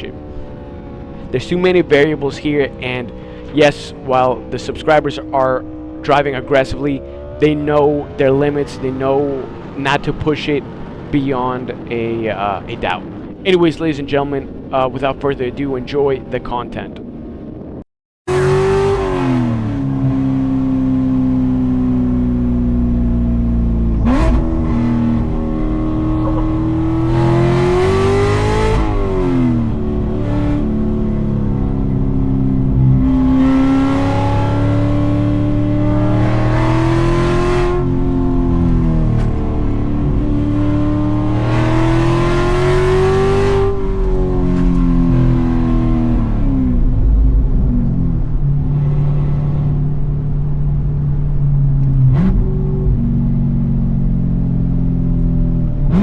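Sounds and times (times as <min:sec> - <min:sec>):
car engine revving: 0:00.0 - 0:16.4, 0:17.0 - 0:56.0.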